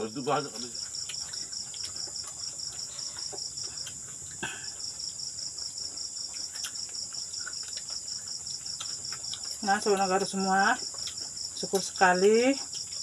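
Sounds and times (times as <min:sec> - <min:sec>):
insect pulsing chirp: 0:00.0 - 0:13.0.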